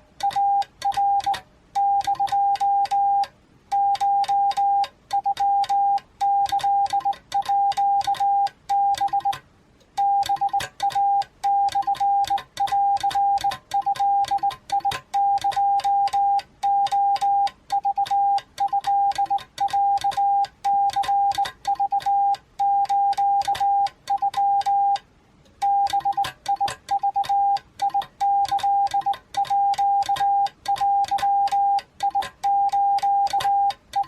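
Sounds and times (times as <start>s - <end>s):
morse code beeps: 0.2s - 9.4s, 10.0s - 25.0s, 25.6s - 34.0s.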